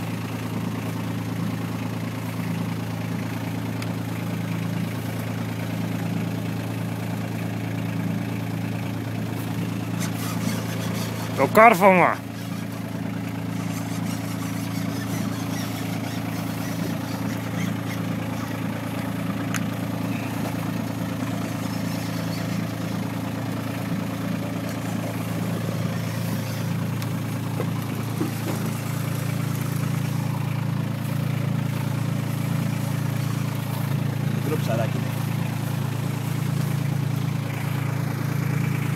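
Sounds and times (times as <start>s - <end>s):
boat engine idling: 0.0s - 38.9s.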